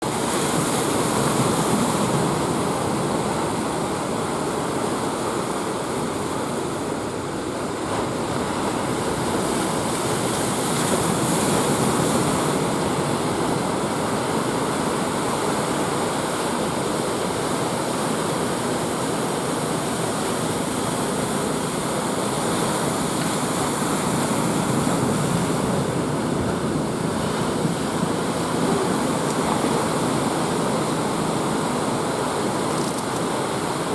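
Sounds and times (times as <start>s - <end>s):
ocean surf breaking: 0.0s - 33.9s.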